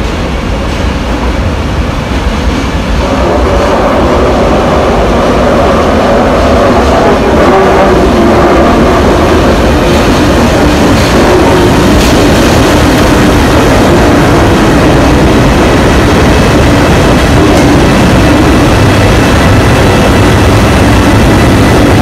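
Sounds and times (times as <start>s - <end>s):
diesel locomotive engines running: 0.0s - 22.0s.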